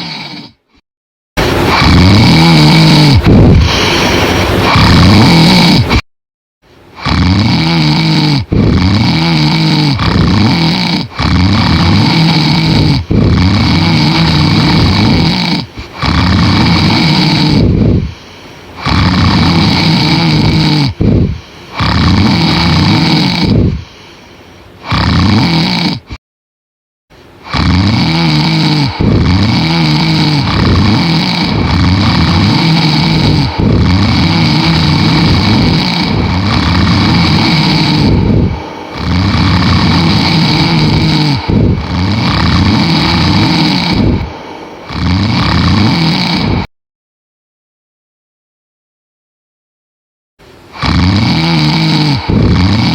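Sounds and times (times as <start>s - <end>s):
man snoring loudly: 0.0s - 0.8s, 1.4s - 6.1s, 7.0s - 24.2s, 24.8s - 26.2s, 27.4s - 46.7s, 50.7s - 52.9s.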